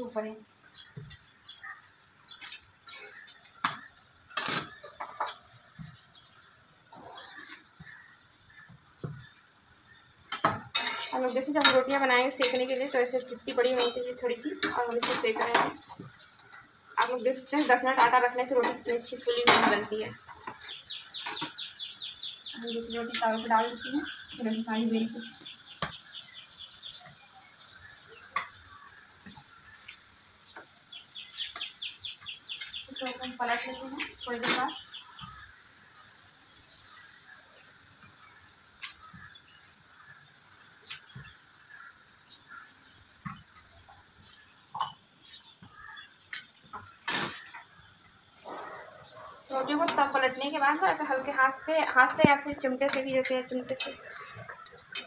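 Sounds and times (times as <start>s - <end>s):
faint birds chirping: 0.0s - 55.0s.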